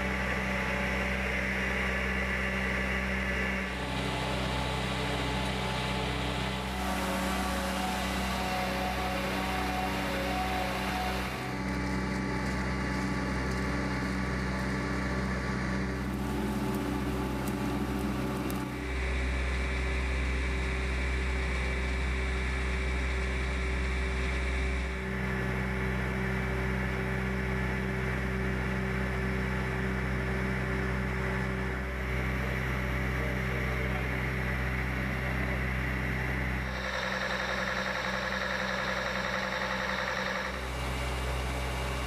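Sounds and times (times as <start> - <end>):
truck engine deep hum: 0.0 - 42.0.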